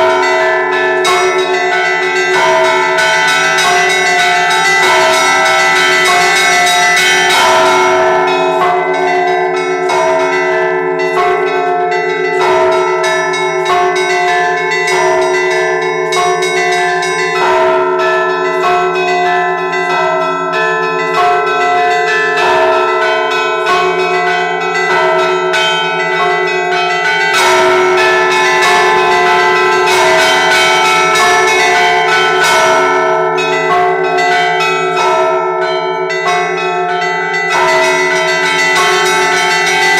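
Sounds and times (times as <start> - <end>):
church bells pealing: 0.0 - 39.9
deep bell humming: 0.0 - 39.9
small high bells chiming: 0.0 - 39.9.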